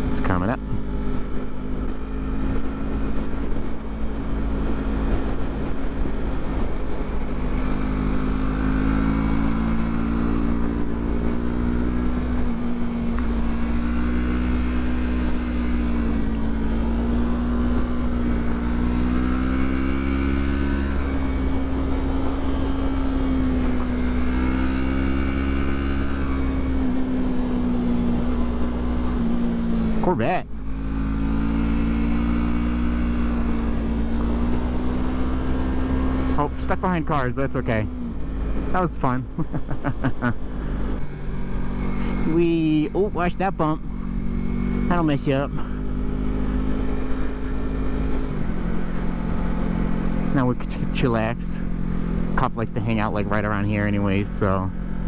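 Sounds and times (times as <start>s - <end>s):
low wind rumble: 0.0s - 55.0s
motorcycle engine revving: 0.0s - 55.0s.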